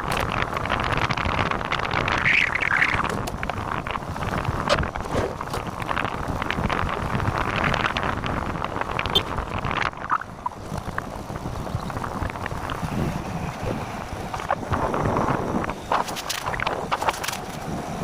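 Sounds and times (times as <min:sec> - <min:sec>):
moving vehicle rumble: 0:00.0 - 0:18.0
wind buffeting microphone: 0:00.0 - 0:18.0.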